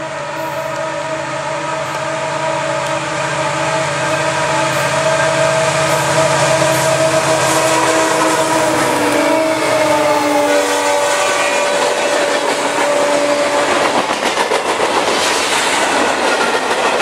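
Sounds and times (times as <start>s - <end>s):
model locomotive engine drone: 0.0s - 17.0s.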